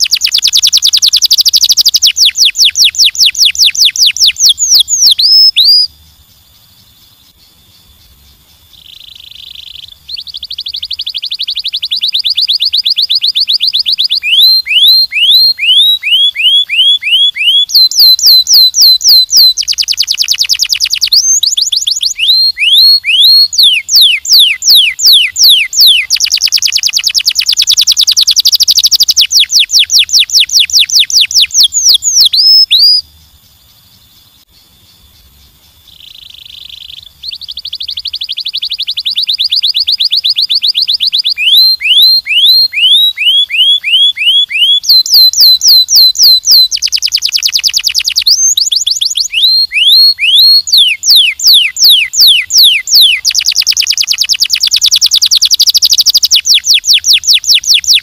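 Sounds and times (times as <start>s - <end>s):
canary singing: 0.0s - 6.0s, 8.7s - 33.1s, 35.9s - 58.0s.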